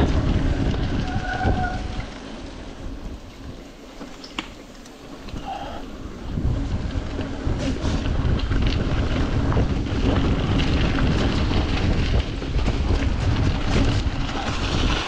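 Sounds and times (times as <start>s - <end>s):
bike clicking and rattling: 0.0s - 15.0s
bike tyres hissing on wet gravel: 0.0s - 15.0s
wind buffeting microphone: 0.0s - 15.0s.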